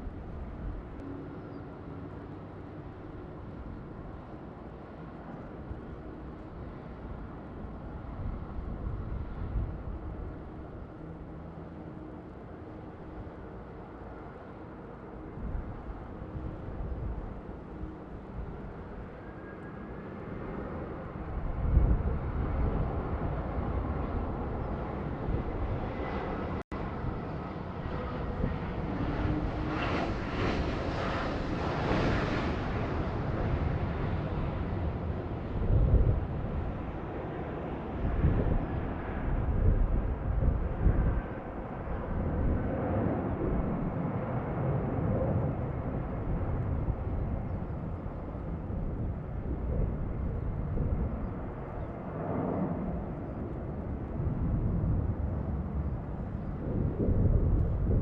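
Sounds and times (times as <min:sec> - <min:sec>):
jet engines running: 0:00.0 - 0:58.0
wind gusting on microphone: 0:02.2 - 0:58.0.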